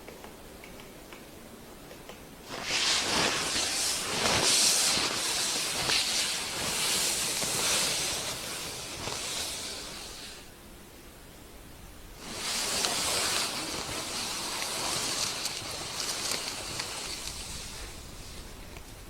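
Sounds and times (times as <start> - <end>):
loud hissing: 2.4 - 19.0.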